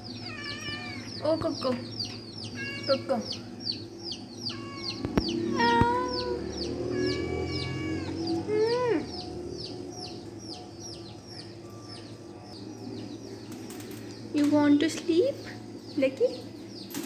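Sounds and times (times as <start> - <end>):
chicks peeping: 0.0 - 14.6.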